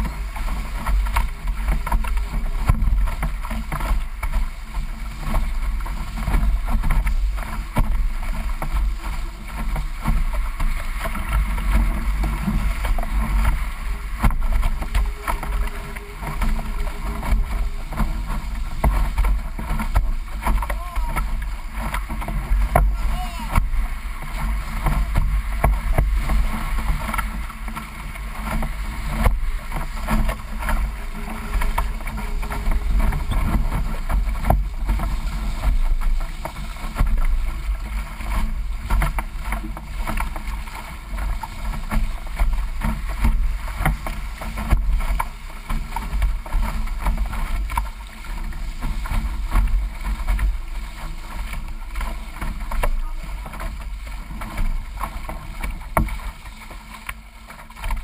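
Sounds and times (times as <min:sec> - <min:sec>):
water splashing against hull: 0:00.0 - 0:58.0
wind rumble on microphone: 0:00.0 - 0:58.0.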